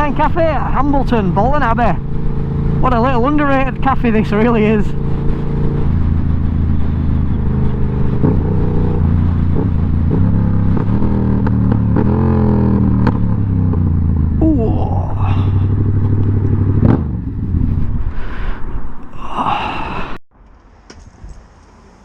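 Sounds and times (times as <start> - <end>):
motorcycle engine running: 0.0 - 18.3.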